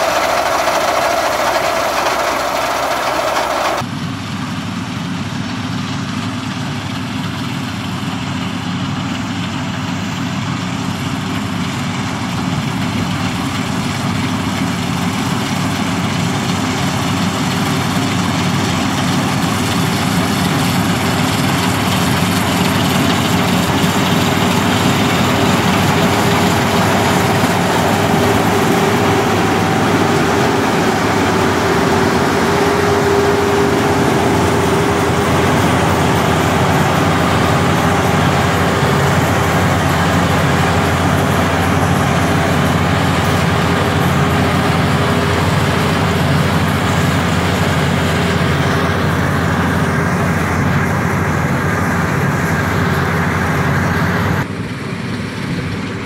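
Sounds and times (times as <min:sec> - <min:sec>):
grain pouring from auger: 0:00.0 - 0:03.9, 0:07.7 - 0:54.5
combine harvester running: 0:00.0 - 0:56.0.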